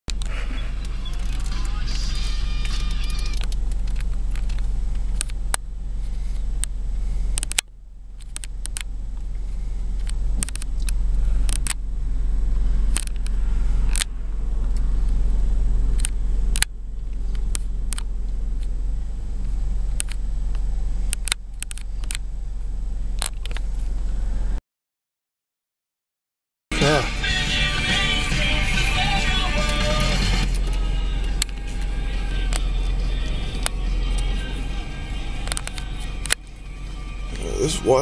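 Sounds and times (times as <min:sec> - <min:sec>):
steady low rumble: 0:00.1 - 0:24.6, 0:26.7 - 0:38.0.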